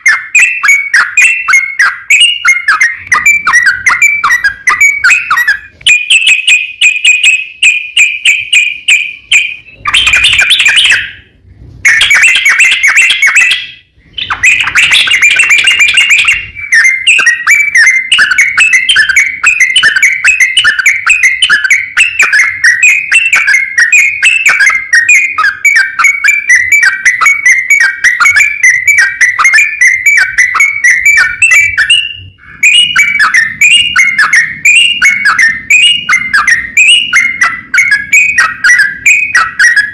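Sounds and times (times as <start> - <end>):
bird chattering calls: 0.0 - 11.2, 11.8 - 39.9.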